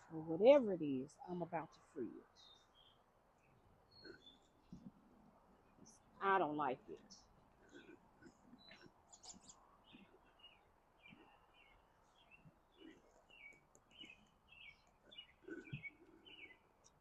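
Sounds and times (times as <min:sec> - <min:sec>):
birds chirping: 0:02.2 - 0:17.0.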